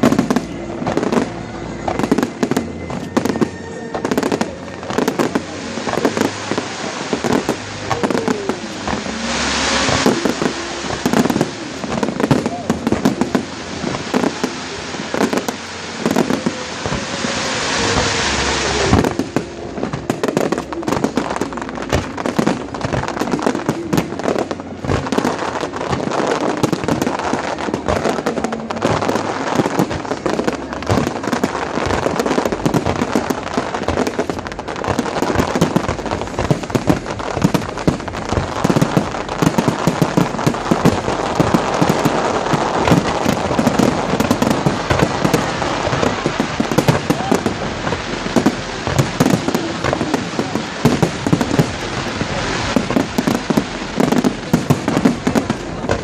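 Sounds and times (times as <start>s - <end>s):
fireworks cracks and bangs: 0.0s - 56.0s
fireworks hissing: 0.0s - 56.0s.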